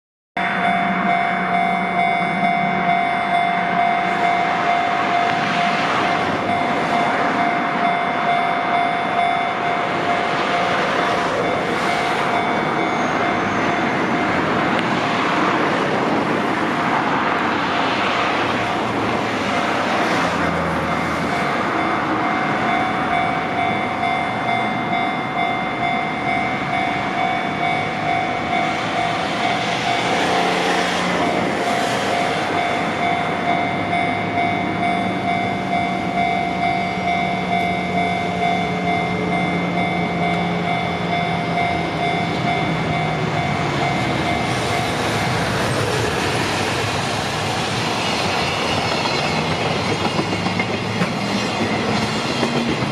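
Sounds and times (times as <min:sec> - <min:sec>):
level-crossing warning bell: 0:00.4 - 0:52.9
vehicles rushing past: 0:00.4 - 0:52.9.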